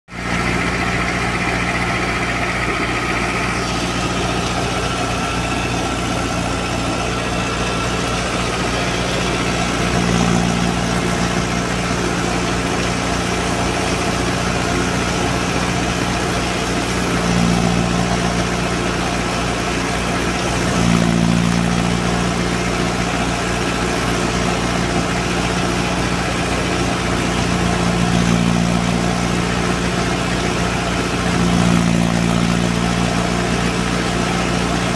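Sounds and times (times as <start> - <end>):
tractor diesel engine: 0.0 - 34.9
thresher running: 0.1 - 34.9.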